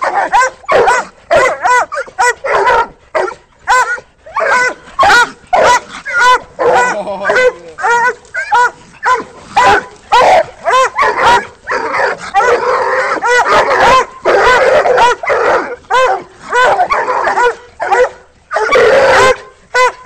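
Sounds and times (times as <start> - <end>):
hounds barking: 0.0 - 20.0.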